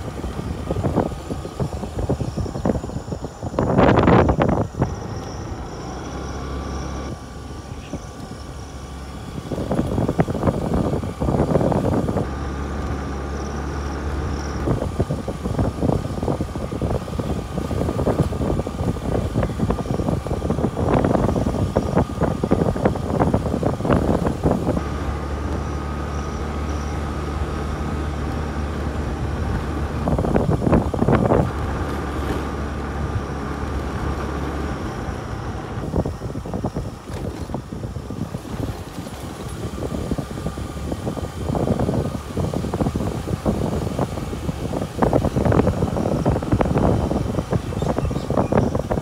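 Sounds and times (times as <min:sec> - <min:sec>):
vehicle engine hum: 0:00.0 - 0:49.0
vehicle rattling over bumps: 0:00.0 - 0:49.0.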